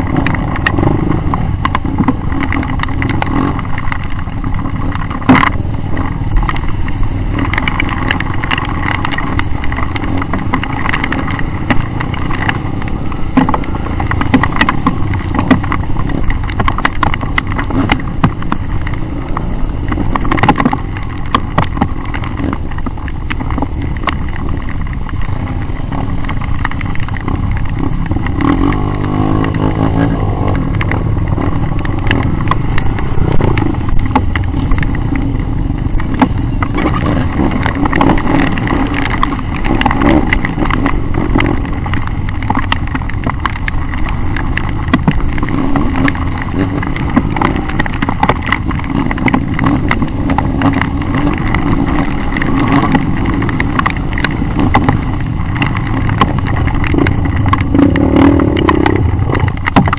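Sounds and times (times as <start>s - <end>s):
knocks and rattles of bikes: 0.0s - 59.9s
motorcycle engines revving: 0.0s - 59.9s.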